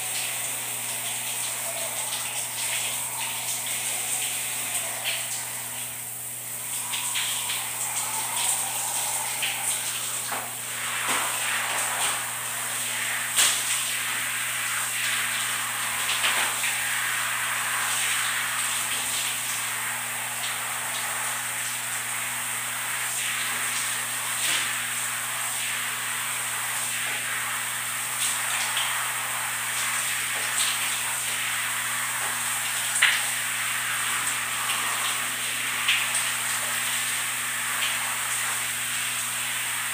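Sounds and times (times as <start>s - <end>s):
shower water spraying: 0.0s - 39.9s.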